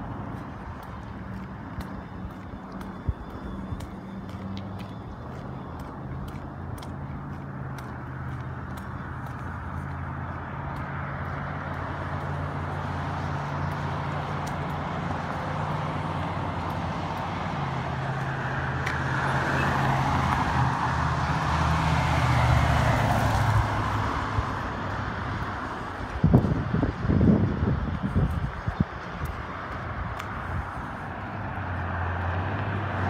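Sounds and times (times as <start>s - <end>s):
traffic engine drone: 0.0s - 33.0s
vehicle passing: 0.0s - 33.0s.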